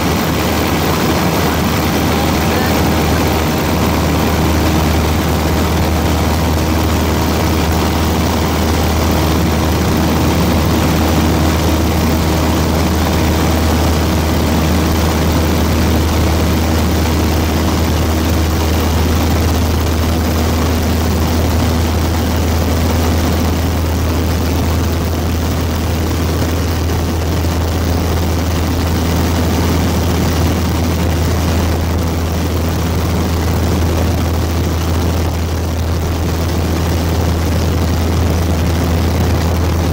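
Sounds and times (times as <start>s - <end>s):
aircraft cabin drone: 0.0s - 39.9s.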